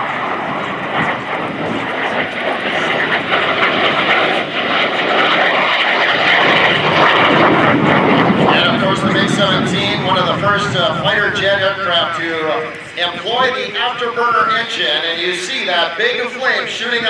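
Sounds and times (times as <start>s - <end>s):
jet fighter afterburner roar: 0.0s - 17.0s.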